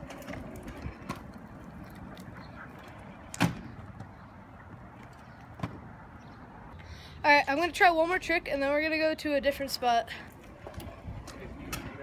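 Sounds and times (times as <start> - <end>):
scooter wheels rolling on asphalt: 0.0 - 6.7, 7.3 - 12.0.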